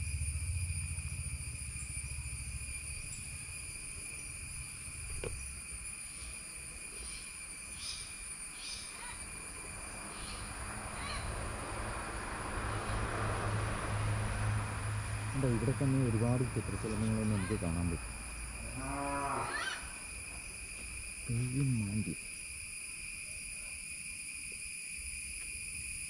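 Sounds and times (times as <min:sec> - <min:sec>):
insect drone: 0:00.0 - 0:26.0.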